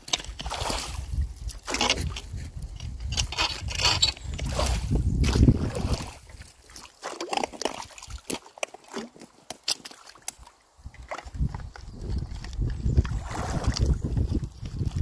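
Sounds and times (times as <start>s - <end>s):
rake dragging through water: 0.0s - 15.0s
water sloshing and splashing: 0.0s - 15.0s.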